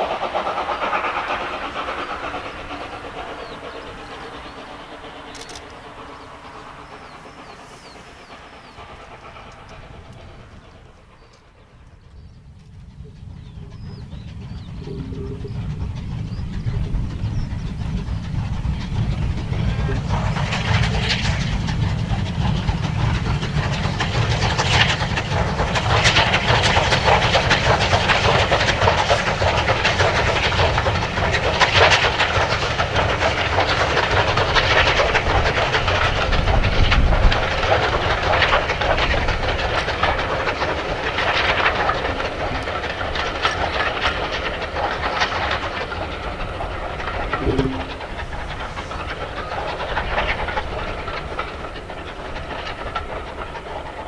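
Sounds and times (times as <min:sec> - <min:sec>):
steam locomotive exhaust beats: 0:00.0 - 0:54.0
wheels clattering on rail: 0:00.0 - 0:54.0.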